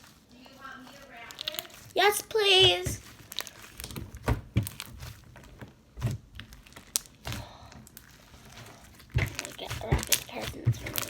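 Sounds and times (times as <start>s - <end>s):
crinkling: 0.0s - 11.0s.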